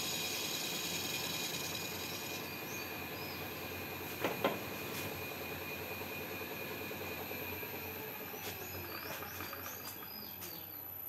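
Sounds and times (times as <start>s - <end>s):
metal lathe humming: 0.0s - 10.0s.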